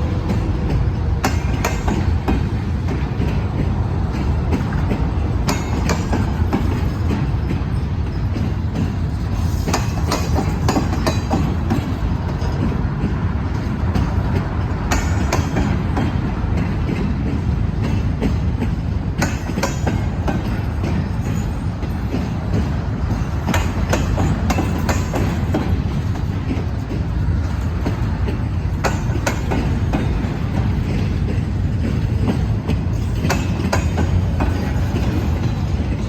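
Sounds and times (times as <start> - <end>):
train cars rumbling: 0.0 - 36.0
wheels clanking over rail joints: 0.0 - 36.0.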